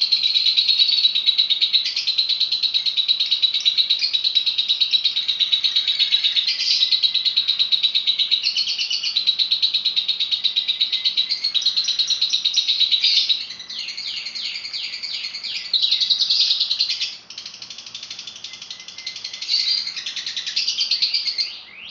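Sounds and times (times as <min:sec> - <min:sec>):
bird chattering trill: 0:00.0 - 0:21.9.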